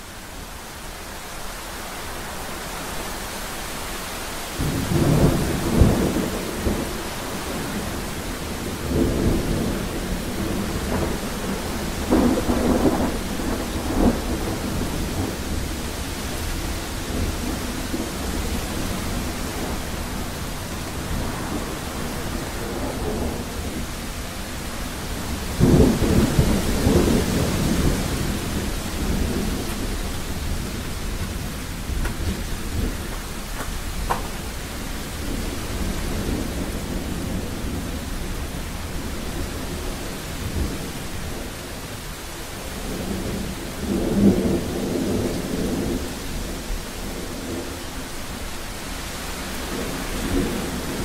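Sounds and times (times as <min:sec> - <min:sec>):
steady rain hiss: 0:00.0 - 0:51.0
rolling thunder: 0:04.6 - 0:41.6, 0:42.7 - 0:48.3, 0:49.4 - 0:51.0.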